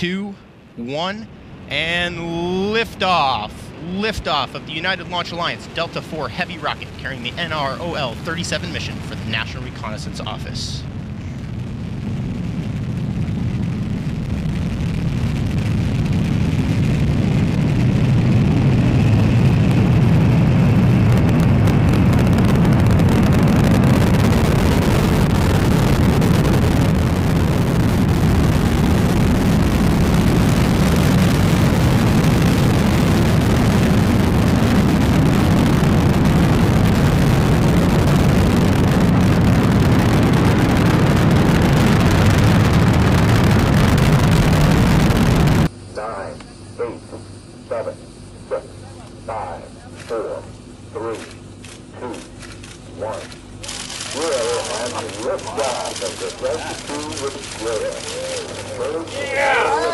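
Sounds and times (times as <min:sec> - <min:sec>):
deep rumble of rocket exhaust: 0:00.0 - 0:45.8, 0:53.4 - 0:59.9.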